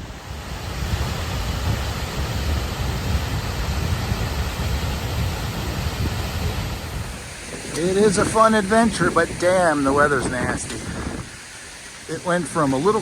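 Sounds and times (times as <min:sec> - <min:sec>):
steady rushing hiss: 0:00.0 - 0:13.0
wind buffeting microphone: 0:00.0 - 0:13.0.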